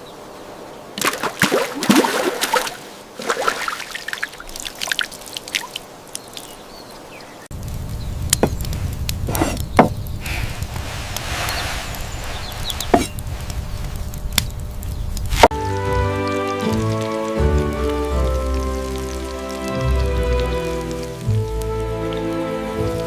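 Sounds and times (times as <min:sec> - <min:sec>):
water splashing and trickling: 0:00.9 - 0:14.4, 0:15.2 - 0:23.0.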